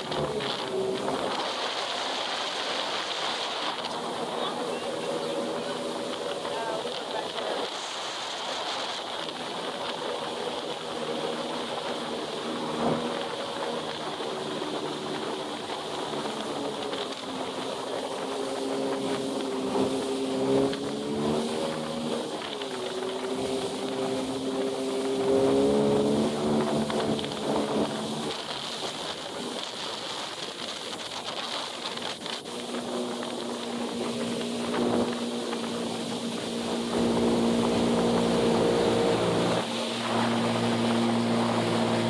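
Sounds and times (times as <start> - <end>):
jet ski engine running: 0.0 - 42.0
water rushing: 0.0 - 42.0
wind: 0.0 - 42.0.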